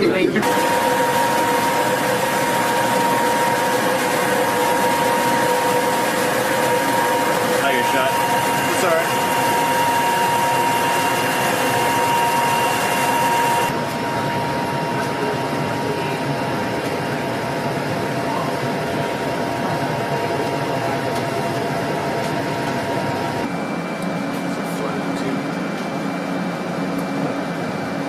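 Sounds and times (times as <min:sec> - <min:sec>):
high steady whine: 0:00.0 - 0:28.0
machinery and ventilation hum: 0:00.0 - 0:28.0.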